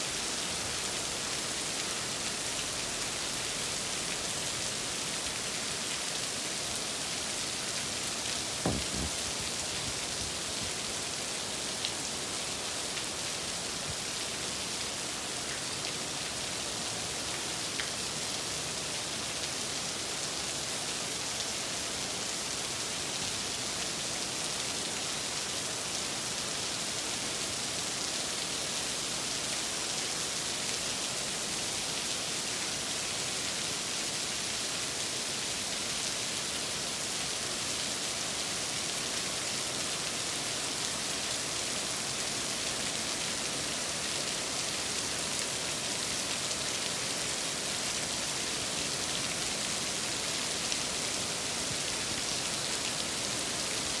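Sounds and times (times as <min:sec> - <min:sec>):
heavy rain on metal roofs: 0:00.0 - 0:54.0.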